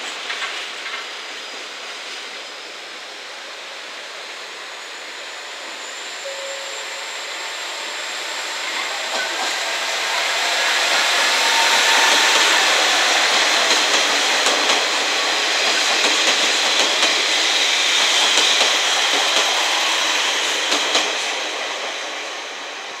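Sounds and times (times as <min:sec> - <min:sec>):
diesel train running past: 0:00.0 - 0:23.0.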